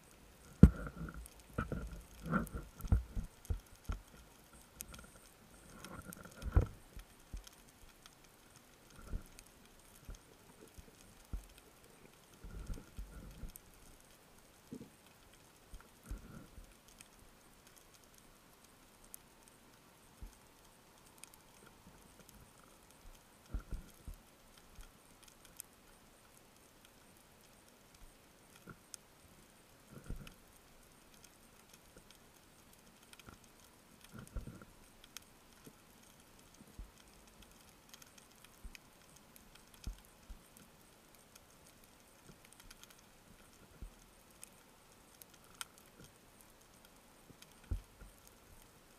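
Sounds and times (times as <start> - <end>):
faint clicks: 0.0 - 48.9.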